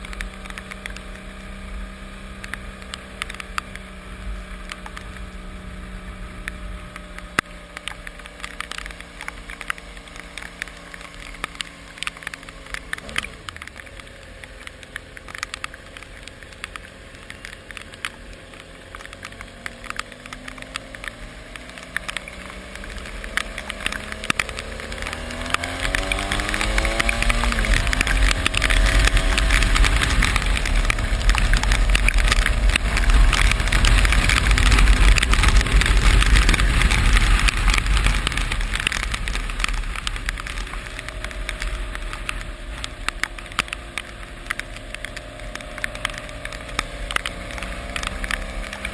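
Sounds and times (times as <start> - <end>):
rain on microphone: 0.0 - 48.9
rushing wash with deep rumble: 0.0 - 48.9
vehicle engine accelerating: 0.0 - 48.9.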